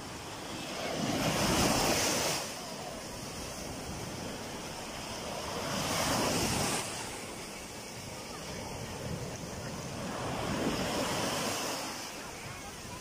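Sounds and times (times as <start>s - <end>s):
small waves breaking: 0.0s - 13.0s.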